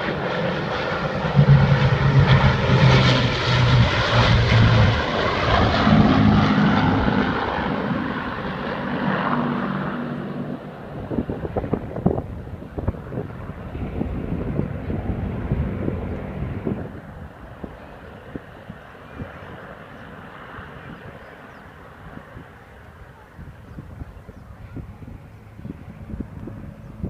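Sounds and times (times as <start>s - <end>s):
piston aircraft engines droning: 0.0s - 27.0s
wind buffeting microphone: 0.0s - 27.0s.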